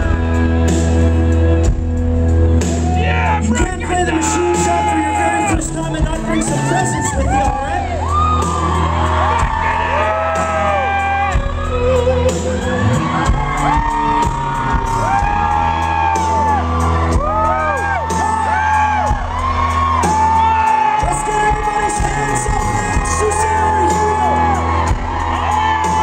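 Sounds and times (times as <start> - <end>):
country band playing: 0.0 - 26.0
crowd whooping: 2.6 - 26.0.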